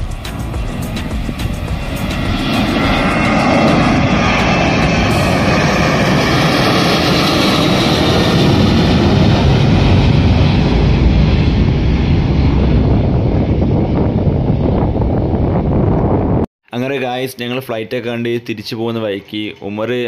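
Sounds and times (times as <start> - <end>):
jet engines roaring with whine: 0.0 - 16.4.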